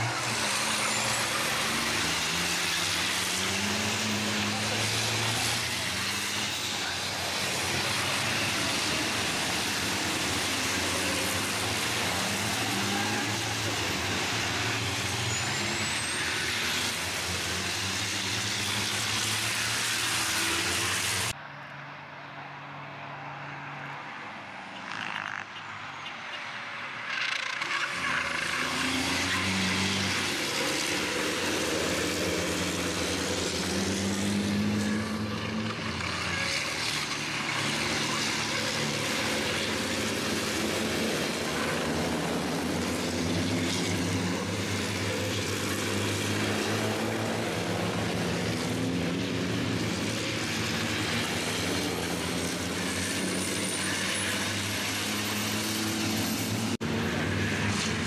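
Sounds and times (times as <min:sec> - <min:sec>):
truck diesel engines racing past: 0:00.0 - 0:58.0.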